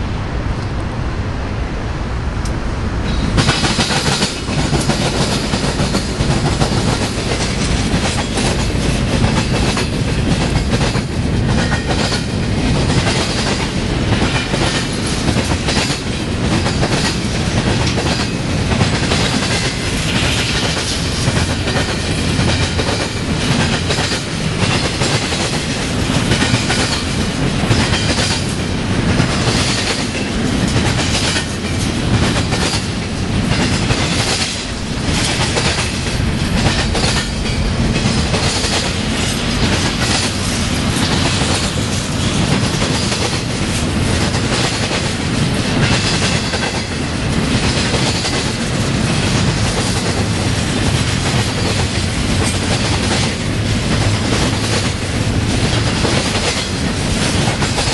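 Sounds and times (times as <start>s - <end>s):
freight train rumbling: 0.0s - 57.9s
steel wheels clacking on rails: 2.4s - 57.9s.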